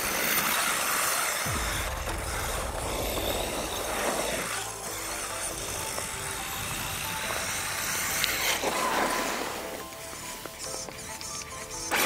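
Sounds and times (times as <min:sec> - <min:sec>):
background music: 0:00.0 - 0:12.0
electric motor whining: 0:00.0 - 0:12.0.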